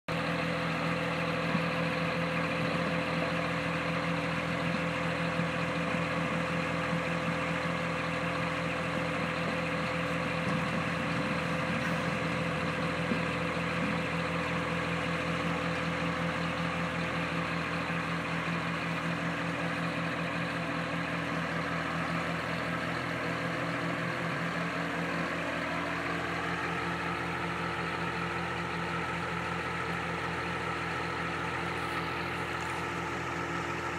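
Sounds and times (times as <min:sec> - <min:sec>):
truck diesel engine running: 0:00.1 - 0:33.9.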